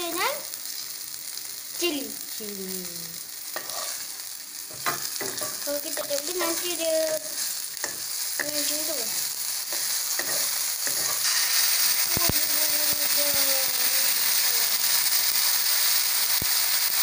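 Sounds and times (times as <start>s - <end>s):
oil sizzling in a wok: 0.0s - 17.0s.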